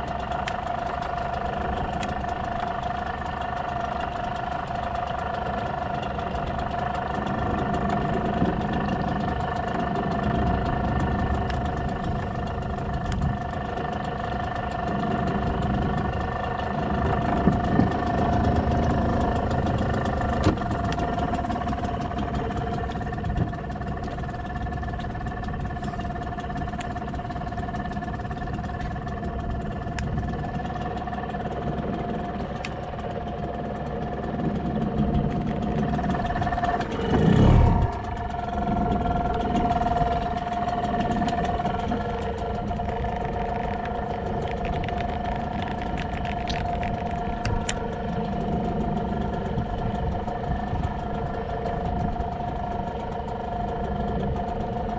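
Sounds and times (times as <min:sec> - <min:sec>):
boat motor running: 0:00.0 - 0:54.9
wind and water rumble: 0:00.0 - 0:54.9.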